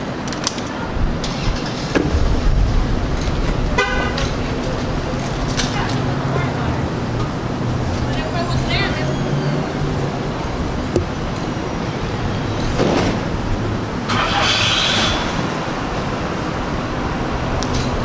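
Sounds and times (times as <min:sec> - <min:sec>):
rushes of noise: 0:01.0 - 0:18.0.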